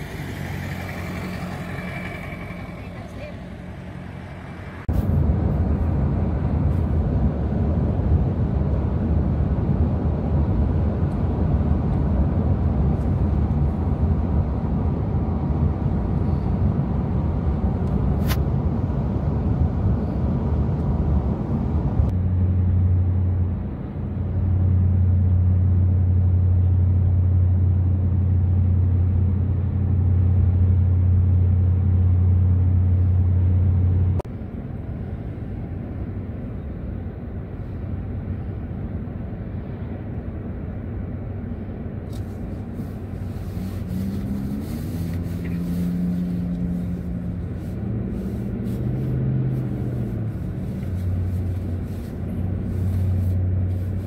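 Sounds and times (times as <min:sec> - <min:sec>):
road and engine rumble in car: 0:00.0 - 0:54.0.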